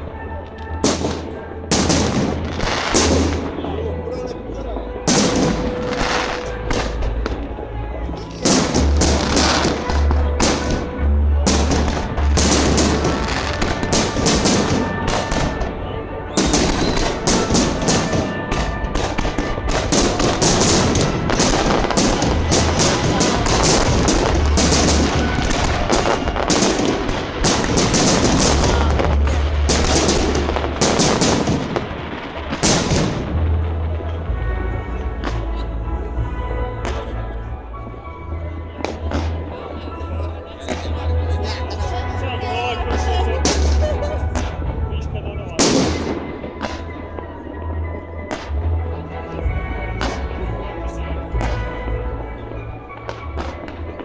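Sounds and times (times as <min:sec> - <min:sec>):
music with deep bass: 0:00.0 - 0:54.0
fireworks bursting with bangs: 0:00.4 - 0:35.6, 0:38.6 - 0:42.1, 0:42.8 - 0:50.5, 0:51.2 - 0:54.0.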